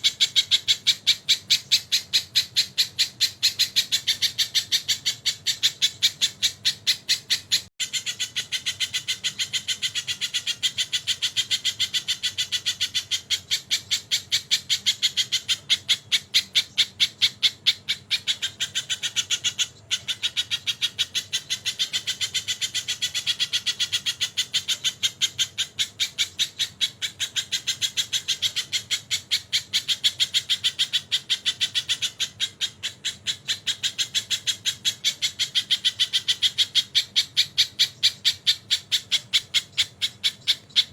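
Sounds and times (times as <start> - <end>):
bird singing sharp repeated notes: 0.0 - 40.9.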